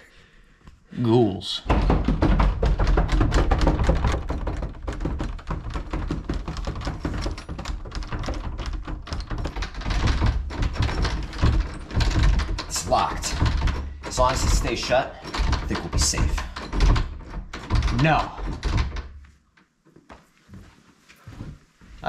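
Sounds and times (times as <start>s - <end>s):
rapid clatter of taps: 1.7s - 20.0s.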